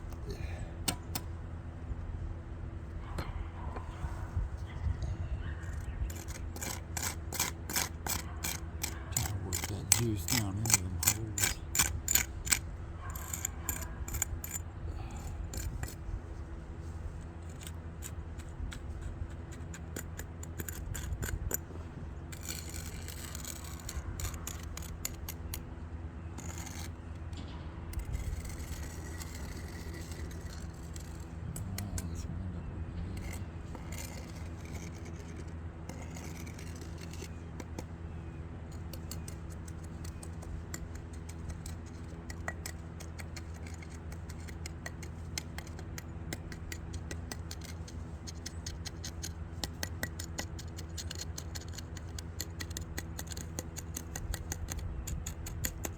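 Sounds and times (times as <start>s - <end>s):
steady low hum: 0.0s - 55.9s
shovel scraping brick: 5.6s - 16.0s, 16.8s - 25.7s, 26.3s - 32.4s, 33.0s - 38.0s, 38.7s - 55.9s.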